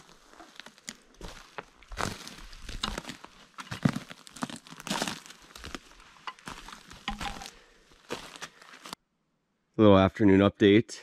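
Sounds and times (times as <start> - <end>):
rustling and crunching: 0.0 - 9.0.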